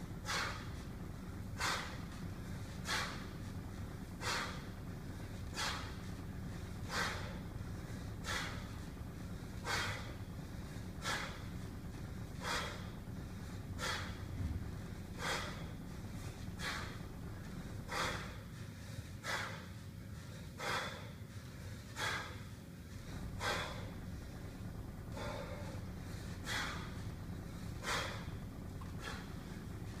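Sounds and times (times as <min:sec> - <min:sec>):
forceful breaths: 0:00.0 - 0:30.0.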